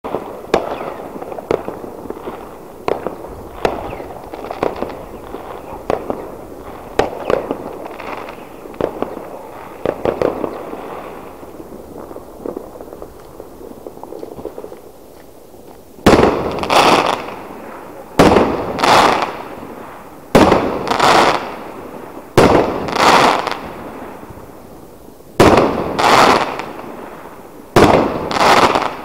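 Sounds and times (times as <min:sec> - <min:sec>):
fireworks banging: 0:00.0 - 0:15.0, 0:16.0 - 0:21.8, 0:22.4 - 0:24.0, 0:27.7 - 0:29.0
fireworks crackling: 0:00.0 - 0:29.0.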